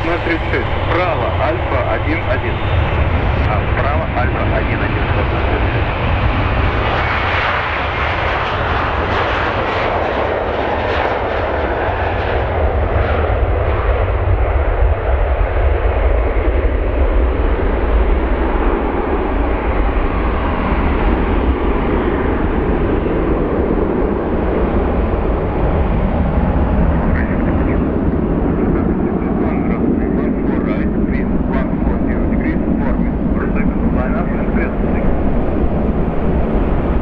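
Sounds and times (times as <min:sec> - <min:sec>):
jet engines roaring at take-off: 0:00.0 - 0:37.0.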